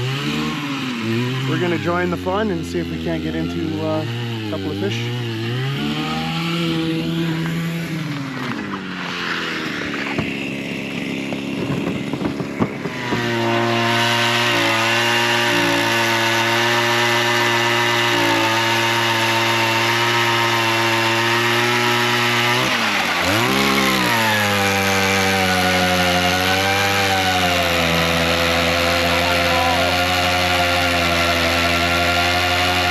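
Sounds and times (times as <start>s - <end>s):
ice auger engine running: 0.0s - 32.9s.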